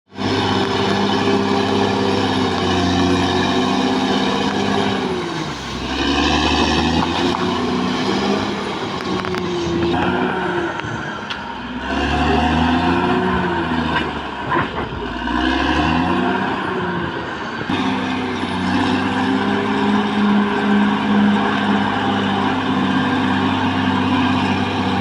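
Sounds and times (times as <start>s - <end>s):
bulldozer diesel engine under load: 0.1s - 25.0s.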